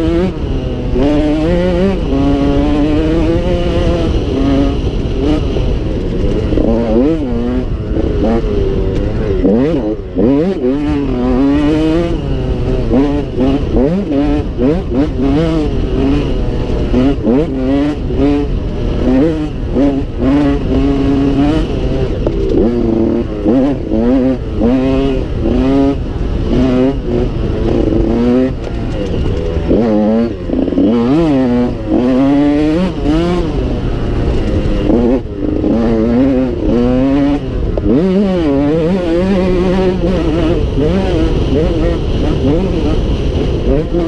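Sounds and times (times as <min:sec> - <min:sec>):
dirt bike engine revving: 0:00.0 - 0:44.0
wind rumbling on microphone: 0:00.0 - 0:44.0.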